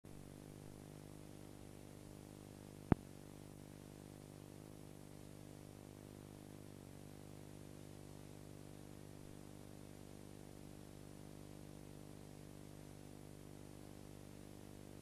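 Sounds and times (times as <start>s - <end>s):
low electrical hum: 0.1s - 15.0s.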